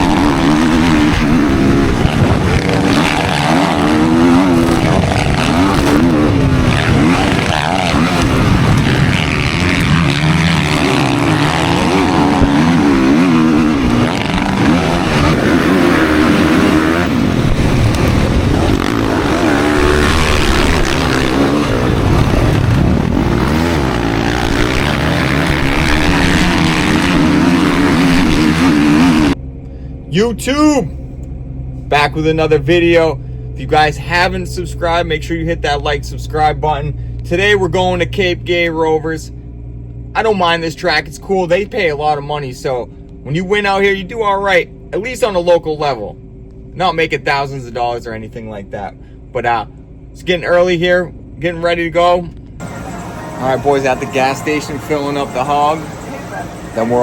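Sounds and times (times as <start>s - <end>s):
dirt bike engines revving: 0.0s - 46.1s, 46.8s - 57.0s.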